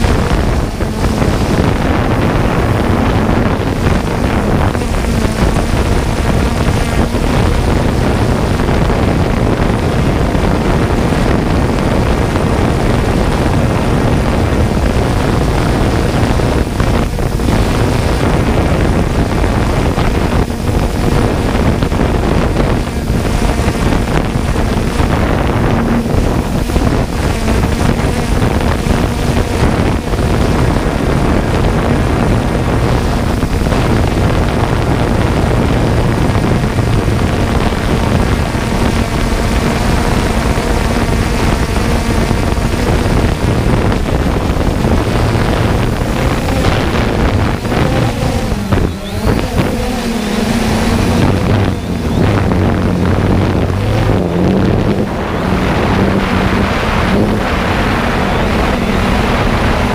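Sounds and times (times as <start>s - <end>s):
drone propellers whirring: 0.0s - 59.9s
wind noise on microphone: 0.0s - 59.9s.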